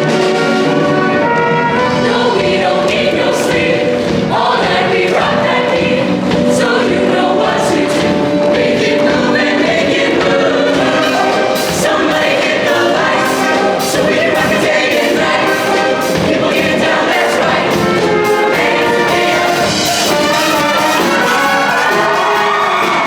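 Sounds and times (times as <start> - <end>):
choir singing in harmony: 0.0 - 23.0
instrumental accompaniment: 0.0 - 23.0
sharp high percussion hits: 0.0 - 23.0.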